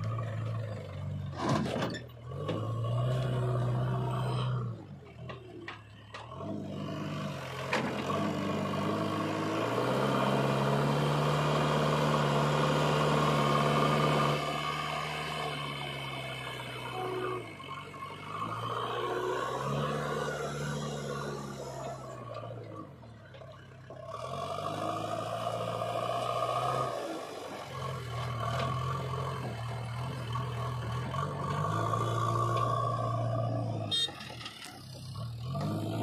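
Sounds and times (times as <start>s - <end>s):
diesel engine revving: 0.0s - 36.0s.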